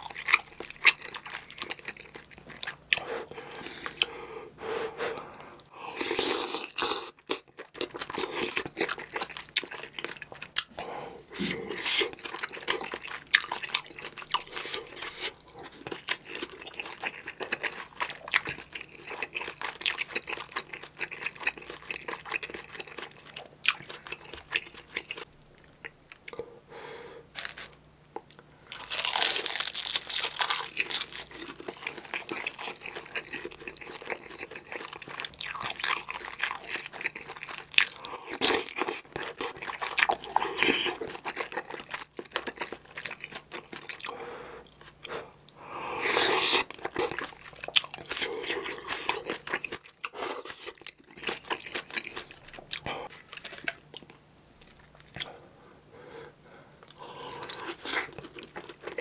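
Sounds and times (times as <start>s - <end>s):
close-miked wet crunchy chewing: 0.0s - 4.4s, 5.1s - 26.4s, 27.3s - 55.7s, 56.4s - 59.0s.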